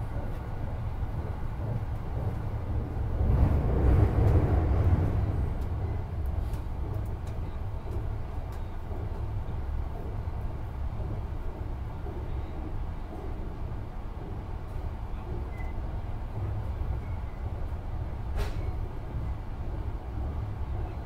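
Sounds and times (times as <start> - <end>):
train running at speed: 0.0 - 21.0.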